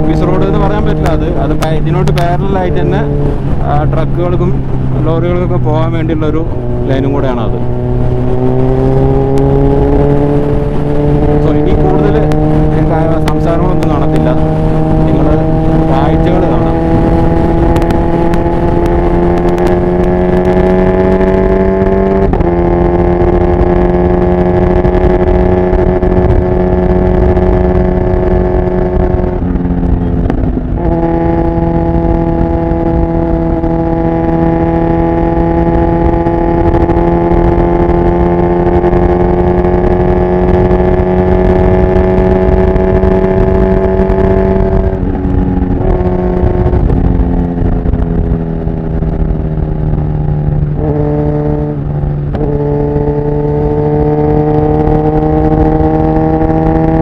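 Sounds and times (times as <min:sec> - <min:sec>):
motorcycle engine at highway speed: 0:00.0 - 0:57.0
wind and road noise: 0:00.0 - 0:57.0.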